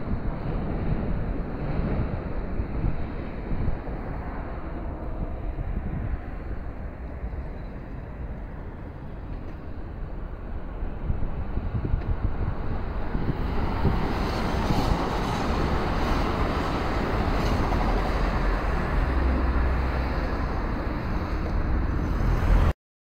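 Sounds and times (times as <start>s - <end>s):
wind on microphone: 0.0s - 22.7s
electric train running past: 0.1s - 22.7s.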